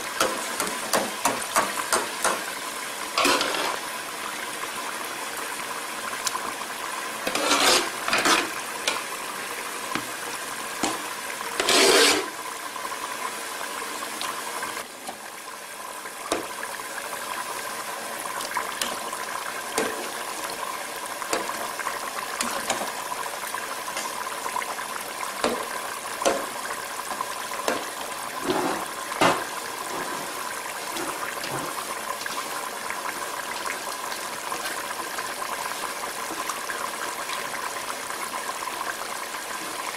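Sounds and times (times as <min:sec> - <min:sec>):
pot bubbling and hissing: 0:00.0 - 0:39.9.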